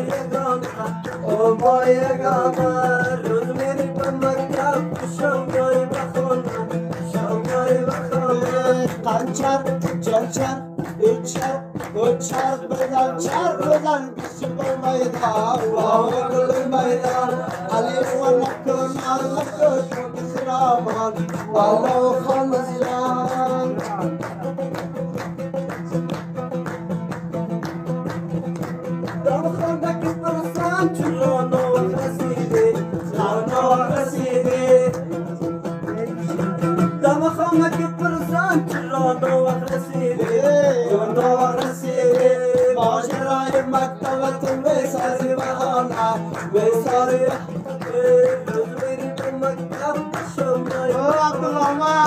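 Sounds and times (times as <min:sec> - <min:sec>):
person singing: 0:00.0 - 0:26.6, 0:28.0 - 0:52.0
plucked lute music over drone: 0:00.0 - 0:52.0.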